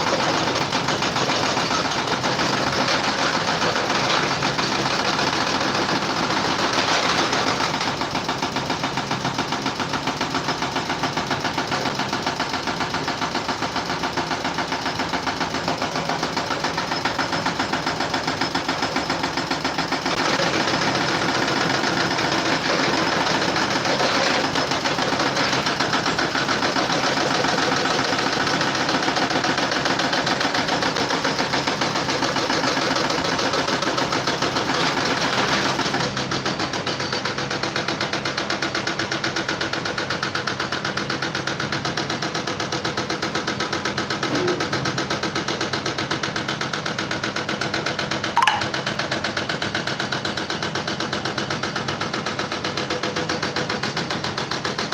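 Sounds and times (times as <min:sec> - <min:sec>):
machine running with rapid pulsing: 0:00.0 - 0:54.9.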